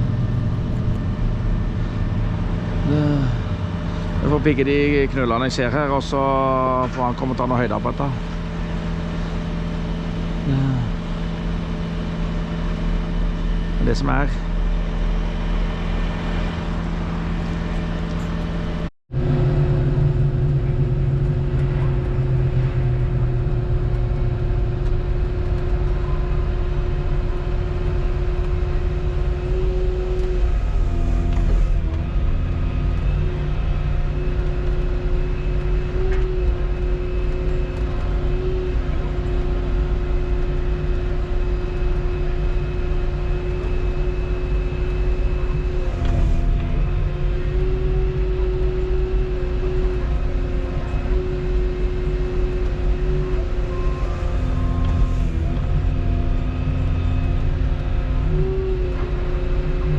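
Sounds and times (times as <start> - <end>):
excavator engine and hydraulics: 0.0 - 59.9
steady whine: 0.0 - 59.9.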